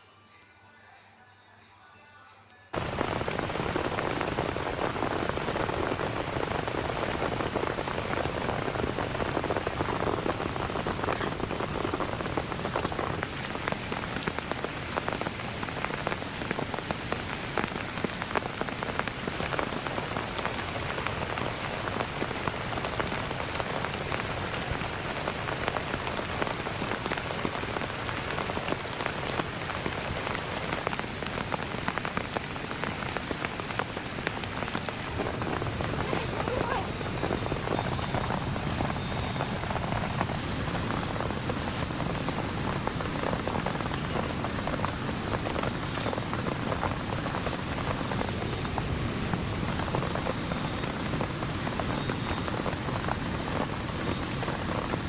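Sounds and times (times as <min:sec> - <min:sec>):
heavy rain falling: 0:02.8 - 0:55.0.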